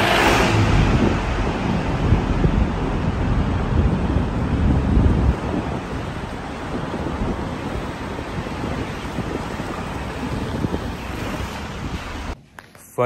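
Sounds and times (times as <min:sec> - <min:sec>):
car driving rumble: 0:00.0 - 0:12.4
wind on microphone: 0:00.0 - 0:12.4.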